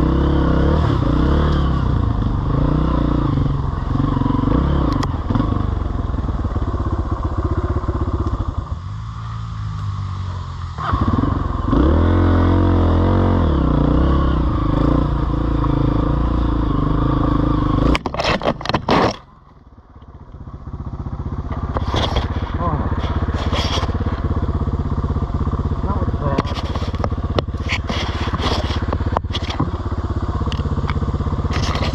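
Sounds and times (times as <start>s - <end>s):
off-road vehicle engine revving: 0.0s - 19.5s, 20.5s - 31.9s.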